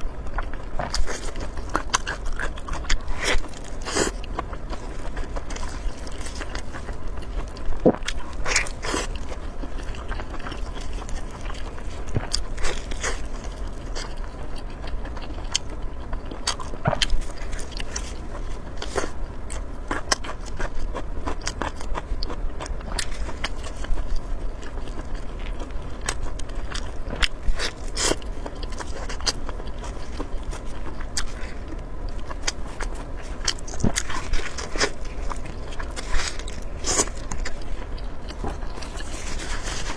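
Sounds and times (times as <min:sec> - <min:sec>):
person biting and chewing: 0:00.0 - 0:39.9.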